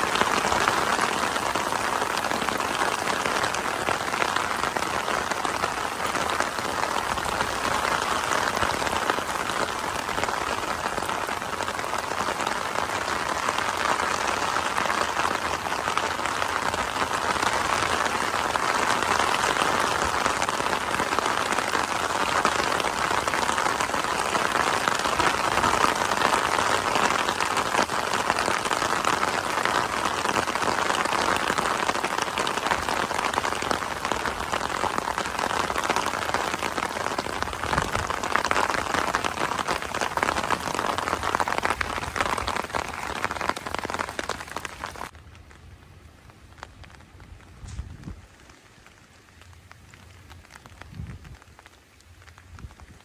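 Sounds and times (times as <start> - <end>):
rain falling steadily: 0.0 - 53.0.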